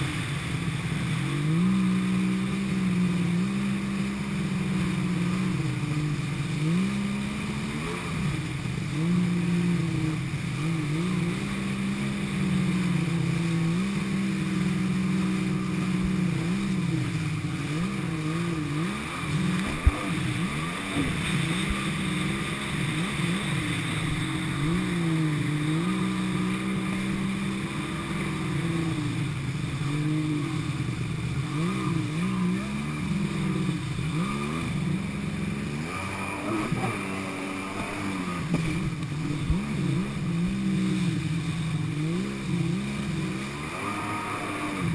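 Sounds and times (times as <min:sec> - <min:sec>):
jet ski engine revving: 0:00.0 - 0:44.9
water spray rushing: 0:00.0 - 0:44.9.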